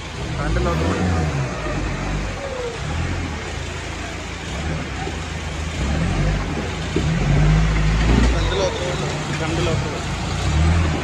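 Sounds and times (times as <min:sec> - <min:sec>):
flowing water rushing: 0:00.0 - 0:11.0
jeep engine at low revs: 0:00.0 - 0:11.0.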